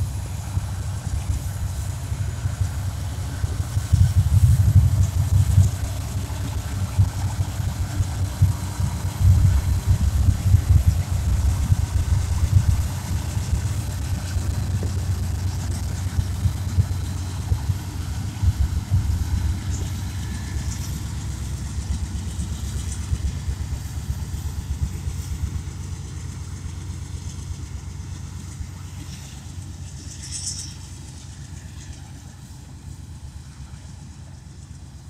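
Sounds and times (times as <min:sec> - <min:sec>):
diesel locomotives rumbling: 0:00.0 - 0:35.0
train cars rolling by: 0:00.0 - 0:35.0.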